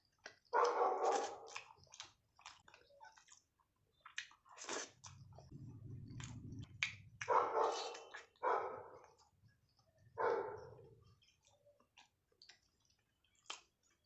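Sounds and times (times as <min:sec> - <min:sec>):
wet chewing with mouth clicks: 0:00.0 - 0:14.0.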